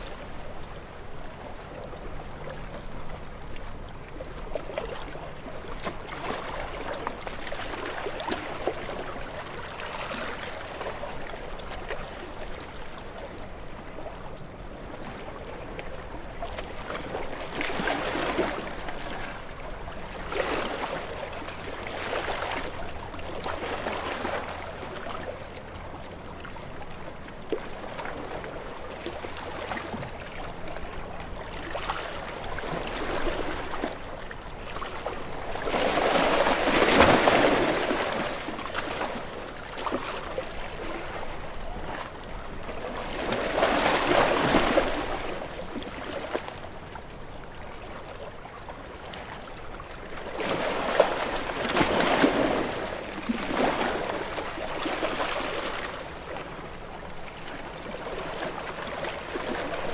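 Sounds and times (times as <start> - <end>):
waves washing and lapping: 0.0 - 59.9.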